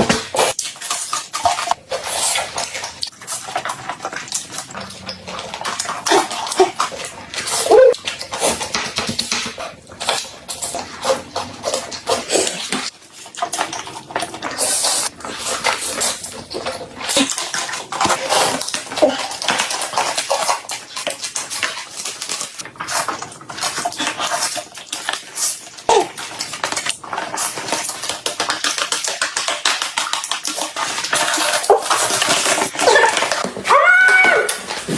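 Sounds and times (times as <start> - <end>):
chewing and crunching: 0.0 - 34.9.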